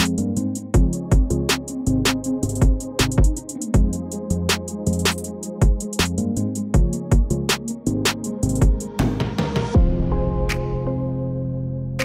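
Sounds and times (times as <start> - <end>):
electronic music with drum-machine beat: 0.0 - 11.3.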